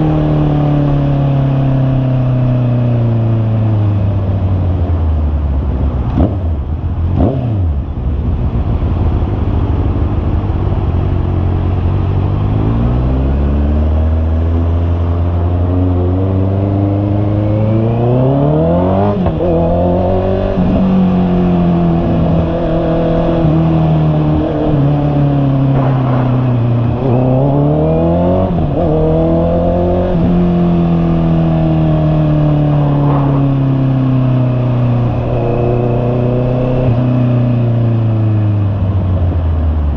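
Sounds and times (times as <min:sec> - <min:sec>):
motorcycle engine revving: 0:05.7 - 0:39.4.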